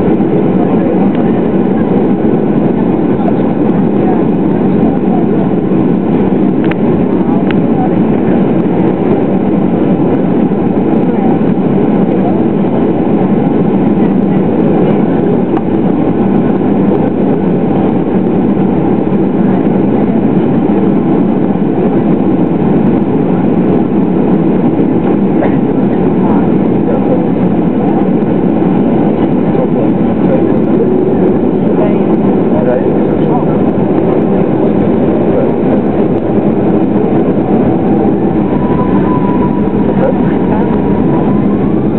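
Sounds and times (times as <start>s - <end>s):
jet engine cabin rumble: 0.0s - 41.9s.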